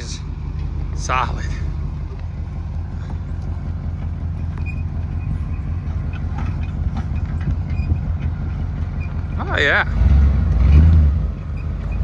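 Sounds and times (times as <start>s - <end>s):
light rattles and knocks: 0.0s - 9.8s
truck engine low rumble: 0.0s - 12.0s.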